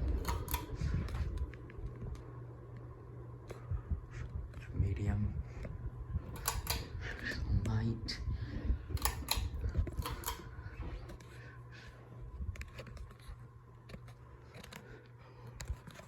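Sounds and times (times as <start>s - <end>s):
ceiling fan motor hum: 0.0s - 16.0s
sharp clicks and rattles: 0.0s - 16.0s.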